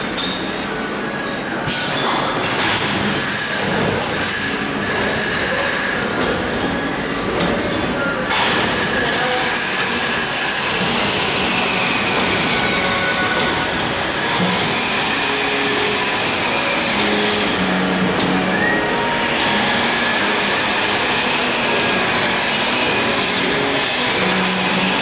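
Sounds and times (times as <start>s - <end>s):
bag making machine running: 1.5s - 25.0s.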